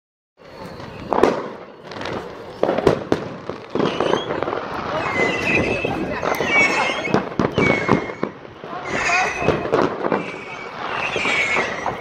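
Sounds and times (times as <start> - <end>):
firecrackers crackling: 0.4 - 12.0
firework bangs: 0.4 - 12.0
firework whistle: 0.4 - 12.0.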